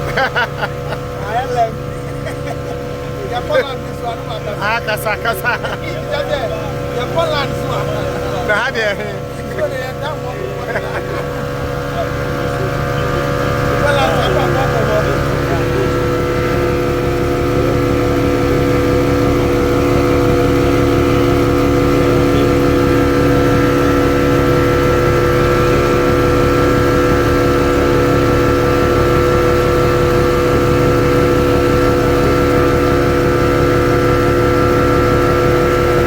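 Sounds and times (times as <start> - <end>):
motorboat engine running: 0.0 - 36.0.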